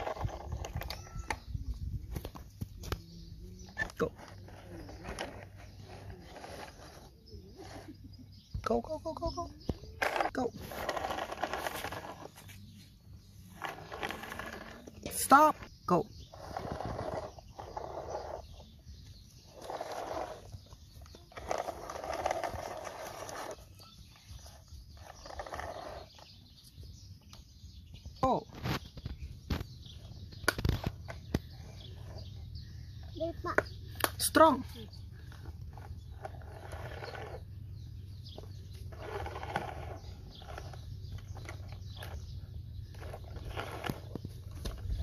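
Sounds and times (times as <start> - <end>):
toy excavator scraping dirt: 0.0 - 1.6, 3.6 - 8.5, 9.6 - 27.0, 28.6 - 45.0.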